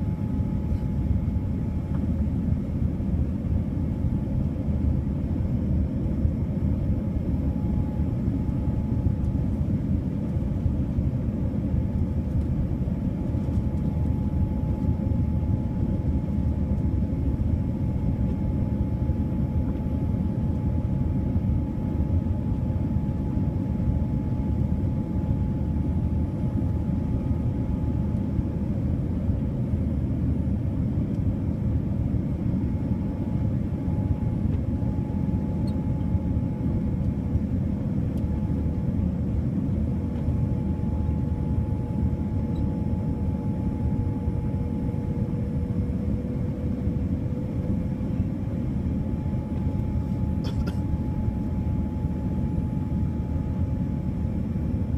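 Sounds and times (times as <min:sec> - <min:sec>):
airliner cabin rumble: 0:00.0 - 0:54.9
faint steady hum: 0:00.0 - 0:54.9.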